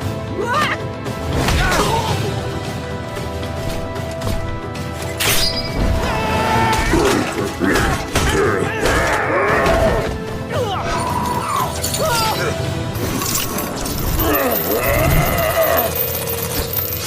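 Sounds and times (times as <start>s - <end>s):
action cartoon music: 0.0s - 17.0s.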